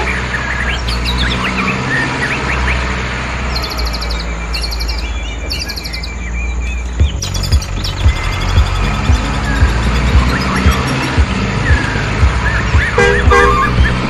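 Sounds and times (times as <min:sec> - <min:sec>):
rapid high bird trill: 0:00.0 - 0:14.0
small birds chirping: 0:00.0 - 0:14.0.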